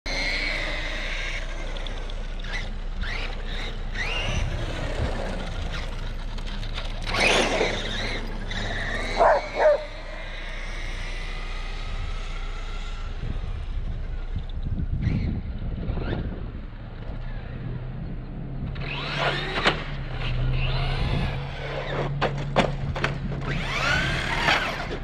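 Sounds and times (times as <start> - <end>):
drone propellers whining: 0.1 - 25.0.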